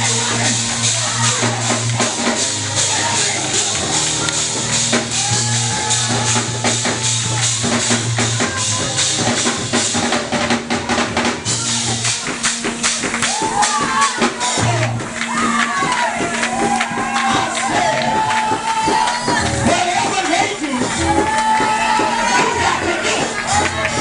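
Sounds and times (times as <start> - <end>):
drums and cymbals: 0.0 - 24.0
gospel band playing: 0.0 - 24.0.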